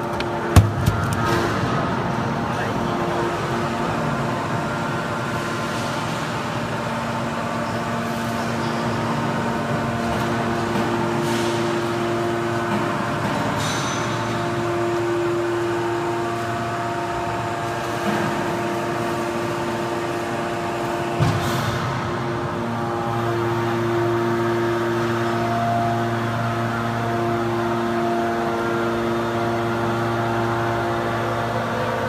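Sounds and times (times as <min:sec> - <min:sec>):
hydraulic machine humming: 0:00.0 - 0:32.0.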